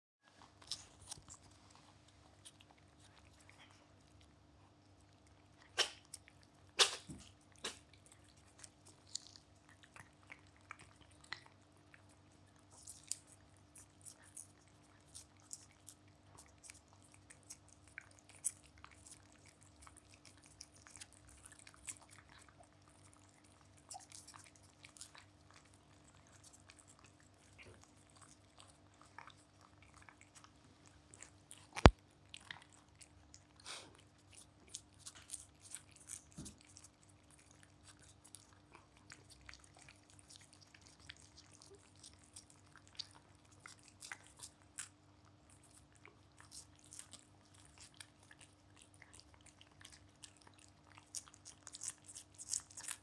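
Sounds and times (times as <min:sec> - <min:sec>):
cats licking: 0:00.4 - 0:53.0.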